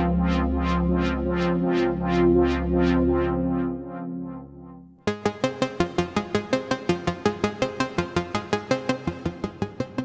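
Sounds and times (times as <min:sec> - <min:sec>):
synth bass and sustained chord: 0:00.0 - 0:10.0.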